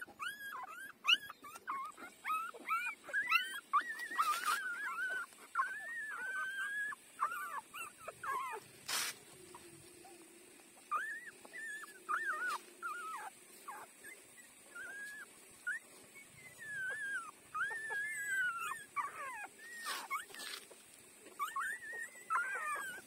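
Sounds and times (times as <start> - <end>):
puppies squeaking and whimpering: 0.0 - 23.0.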